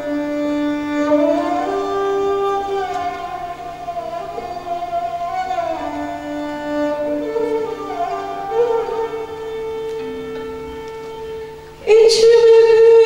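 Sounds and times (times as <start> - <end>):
bowed fiddle slow melody: 0.0 - 13.0.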